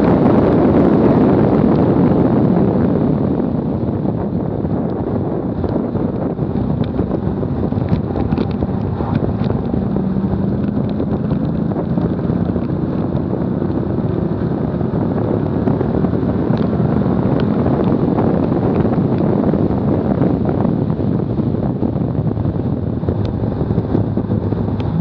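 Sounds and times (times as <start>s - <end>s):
faint car engine: 0.0s - 25.0s
tyre and road noise: 0.0s - 25.0s
wind buffeting microphone: 0.0s - 25.0s.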